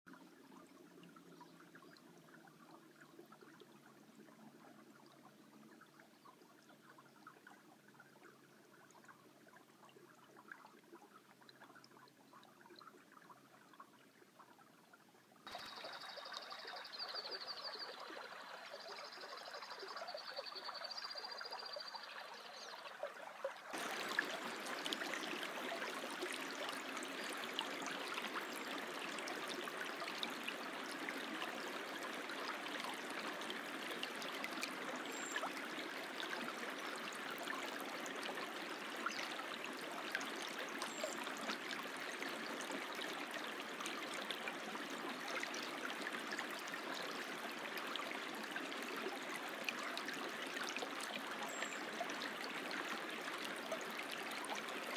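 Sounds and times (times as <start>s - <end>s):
creek trickling over stones: 0.1s - 54.9s.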